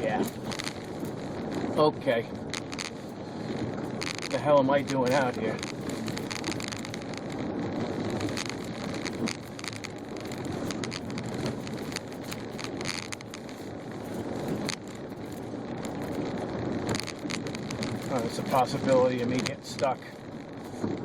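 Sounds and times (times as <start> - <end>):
snow crackling under tyres: 0.0 - 21.0
tyres and engine rumble: 0.0 - 21.0.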